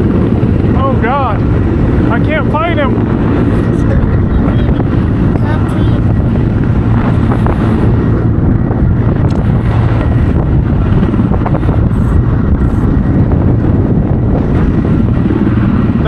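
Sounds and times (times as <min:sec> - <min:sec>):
helicopter rotor noise: 0:00.0 - 0:16.0
wind buffeting microphone: 0:00.0 - 0:16.0.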